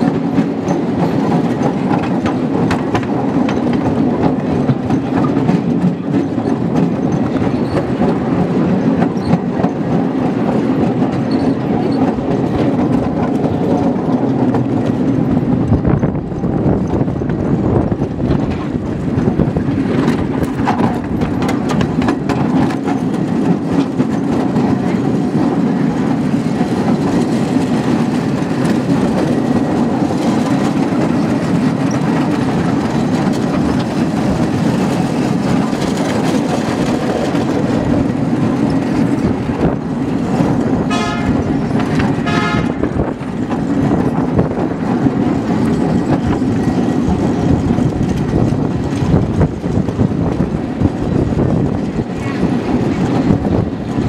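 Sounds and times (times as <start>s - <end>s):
sharp clicks and clacks: 0.0s - 54.0s
steel wheels rumbling on rail: 0.0s - 54.0s.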